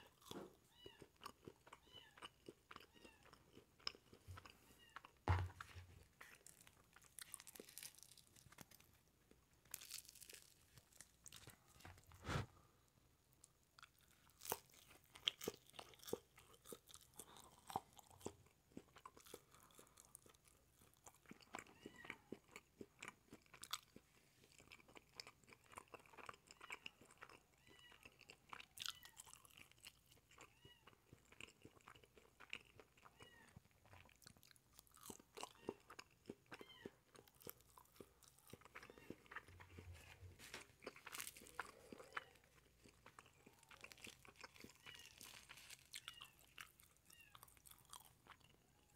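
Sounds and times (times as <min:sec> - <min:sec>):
biting and chewing with crunches: 0:00.0 - 0:12.6, 0:13.8 - 0:48.9.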